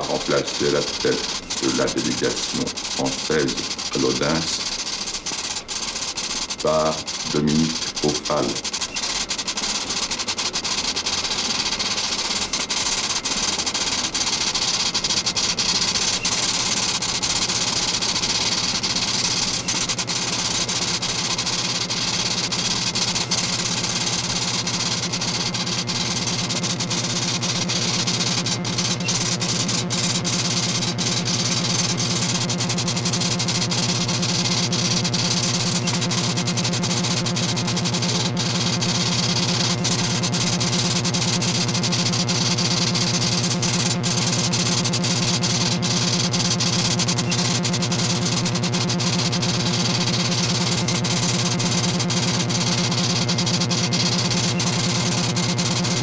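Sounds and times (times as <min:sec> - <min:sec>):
machinery hum and hiss: 0:00.0 - 0:50.7.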